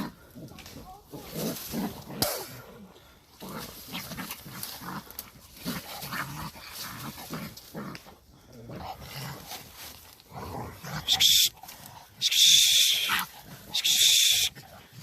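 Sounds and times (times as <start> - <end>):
dogs growling and snarling: 0.0 - 12.2, 13.0 - 15.0.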